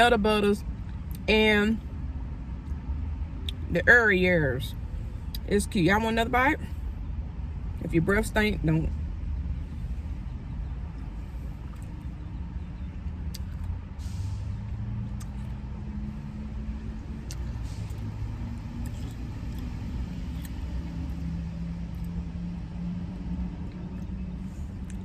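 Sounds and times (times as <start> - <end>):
car engine rumbling: 0.0 - 25.0.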